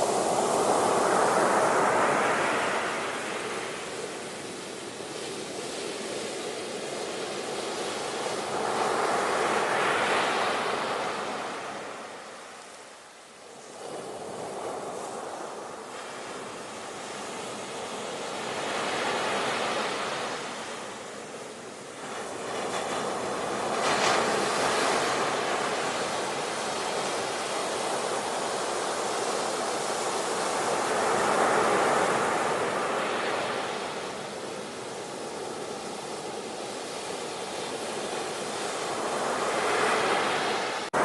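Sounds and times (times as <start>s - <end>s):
ocean waves breaking: 0.0s - 6.2s, 13.7s - 41.0s.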